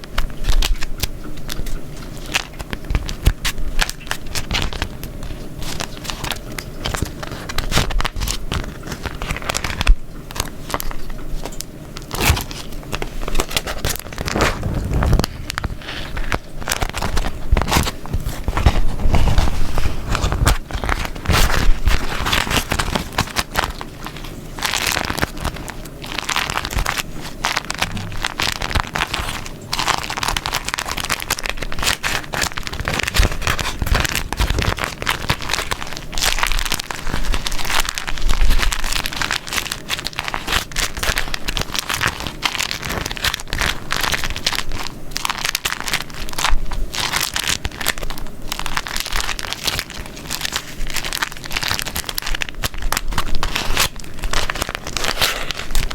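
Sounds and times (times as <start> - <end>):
wax paper crinkling: 0.0 - 55.9.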